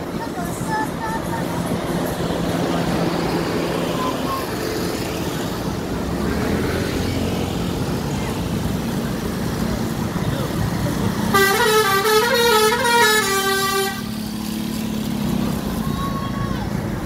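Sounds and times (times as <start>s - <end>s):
bus diesel engine passing: 0.0s - 17.0s
motorcycle engines: 0.0s - 17.0s
street traffic noise: 0.0s - 17.0s.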